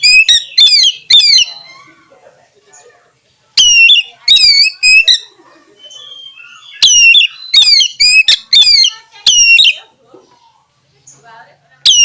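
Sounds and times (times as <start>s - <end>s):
magpie-robin calling: 0.0s - 10.0s, 11.8s - 12.0s.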